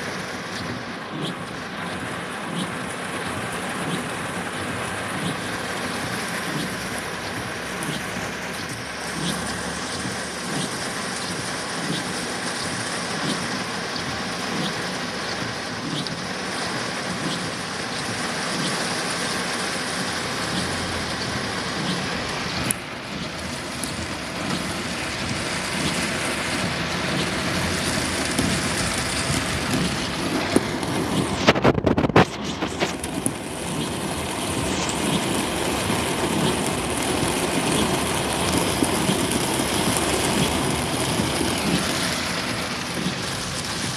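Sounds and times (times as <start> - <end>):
rushing rain and water: 0.0 - 43.9
loud crackles: 5.0 - 43.9.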